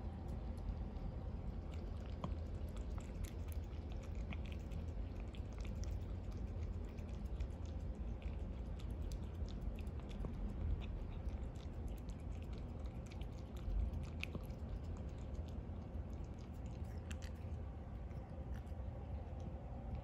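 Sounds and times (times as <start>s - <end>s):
cat chewing and licking: 0.0s - 20.0s.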